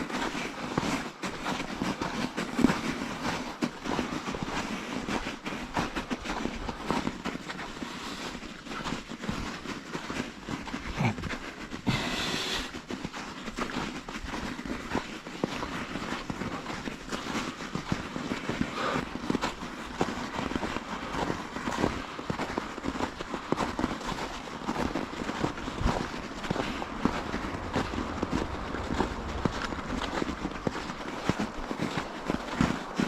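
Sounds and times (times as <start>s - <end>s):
bicycle rattling over rough ground: 0.0s - 33.0s.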